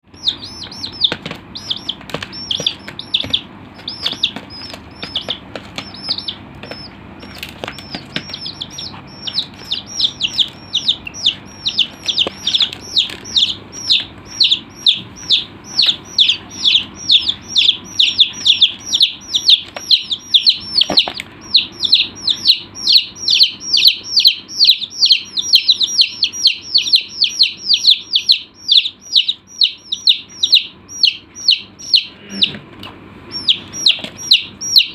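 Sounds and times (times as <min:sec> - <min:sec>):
chicks peeping: 0:00.0 - 0:34.9.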